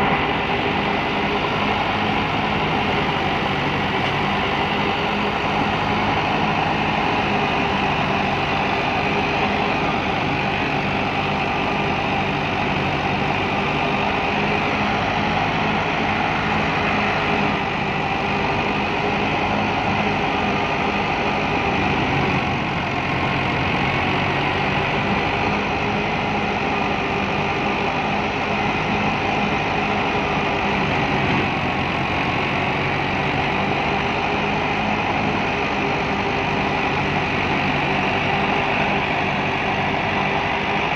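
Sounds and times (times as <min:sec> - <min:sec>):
thresher drum and blower: 0:00.0 - 0:40.9
tractor diesel engine running: 0:00.0 - 0:40.9.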